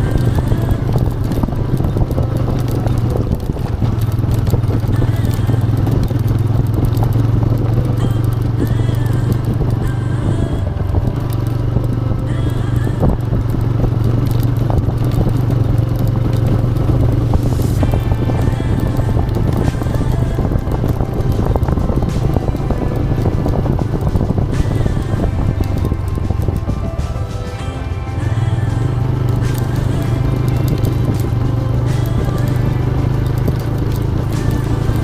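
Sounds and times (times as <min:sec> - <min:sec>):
motorcycle engine low drone: 0:00.0 - 0:35.0.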